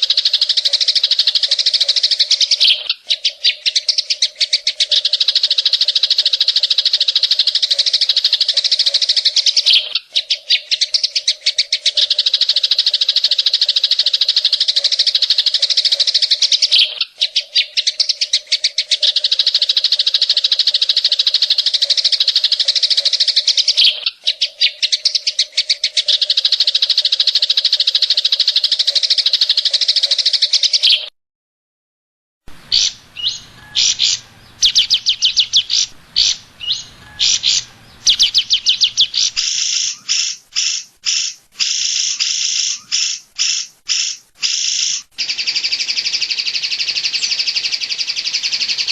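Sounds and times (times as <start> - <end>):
bird singing harsh rapid trills: 0.0 - 31.1, 32.6 - 48.9.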